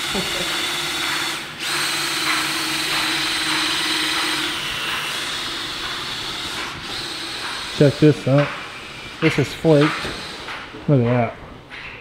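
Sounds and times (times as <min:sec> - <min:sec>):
drill with paddle mixer whirring: 0:00.0 - 0:10.8.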